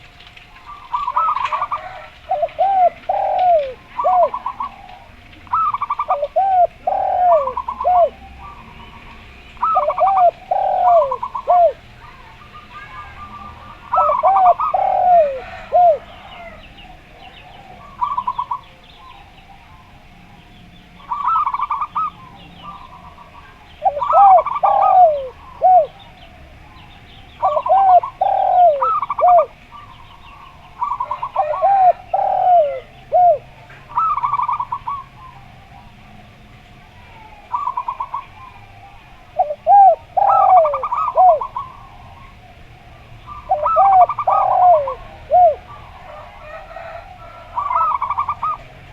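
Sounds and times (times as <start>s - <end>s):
doves cooing: 0.0s - 48.9s
small birds chirping: 0.0s - 48.9s.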